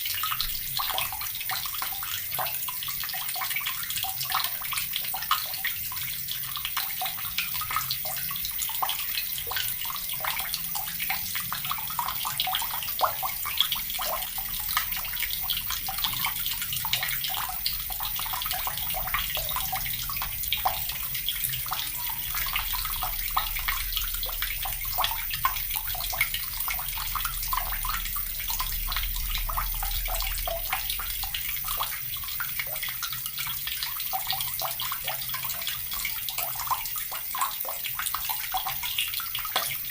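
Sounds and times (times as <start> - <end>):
water tap running: 0.0 - 39.9.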